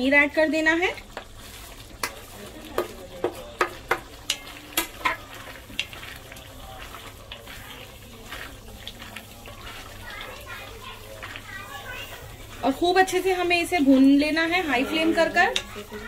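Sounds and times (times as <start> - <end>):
low sizzle: 0.0 - 16.0
wooden spatula scraping a pan: 1.1 - 16.0.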